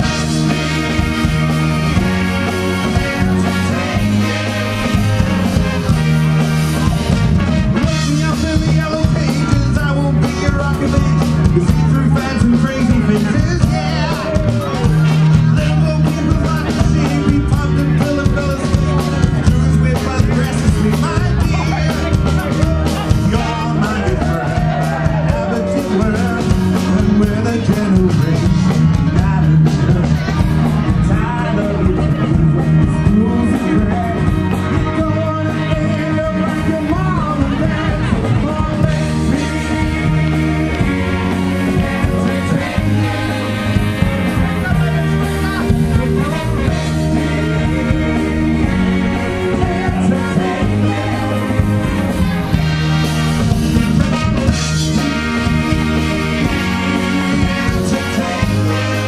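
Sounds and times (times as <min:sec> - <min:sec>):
brass band with drum kit: 0:00.0 - 0:59.0.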